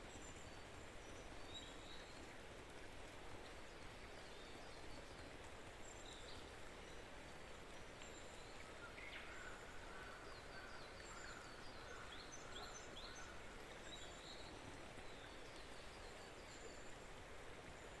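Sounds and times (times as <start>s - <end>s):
steady background hiss: 0.0s - 18.0s
songbirds chirping: 3.5s - 18.0s.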